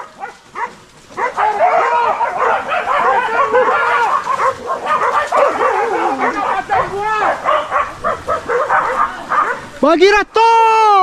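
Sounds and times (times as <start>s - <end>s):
dogs yelping and barking: 0.0s - 9.8s.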